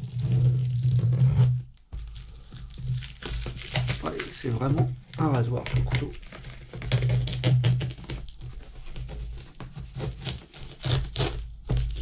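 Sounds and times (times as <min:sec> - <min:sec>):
plastic film crinkling and ripping: 0:00.0 - 0:12.0.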